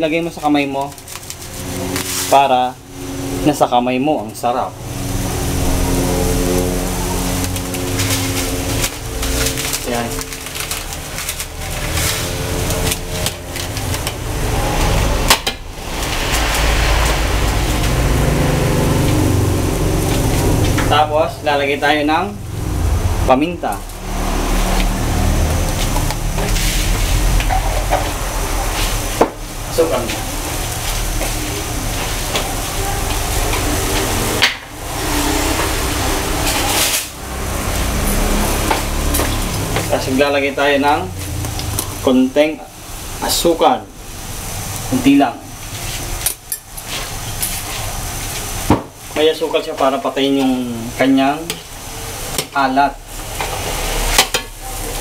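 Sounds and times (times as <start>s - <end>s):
broth boiling in a wok: 0.0s - 55.0s
burner flame rumbling: 0.0s - 55.0s.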